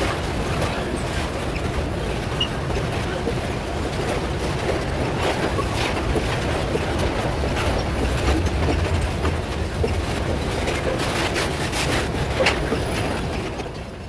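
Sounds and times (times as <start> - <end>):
freight train rumbling: 0.0 - 14.0
wheels knocking on track: 0.0 - 14.0.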